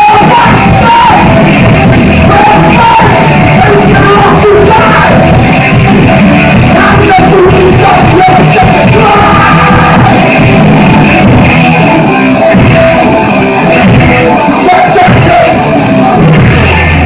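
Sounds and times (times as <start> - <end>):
punk band playing live: 0.0 - 17.0.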